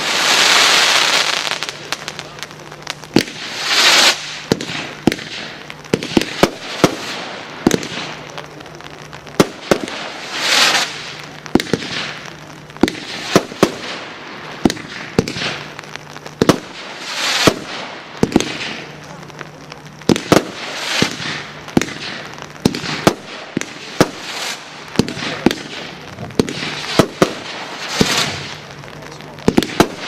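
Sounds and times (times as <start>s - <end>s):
firework bangs: 0.0s - 30.0s
firework hissing crackle: 0.0s - 30.0s.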